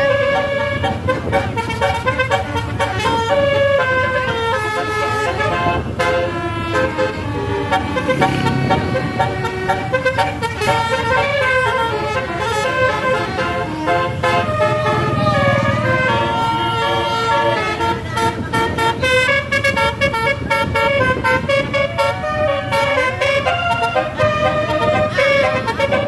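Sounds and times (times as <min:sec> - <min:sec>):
melodic bus horns: 0:00.0 - 0:26.0
vehicle engines running: 0:00.0 - 0:26.0.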